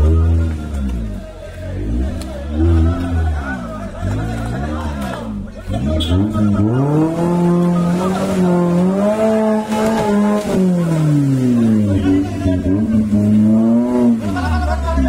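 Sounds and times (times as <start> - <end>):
jeep engine revving hard: 0.0 - 15.0.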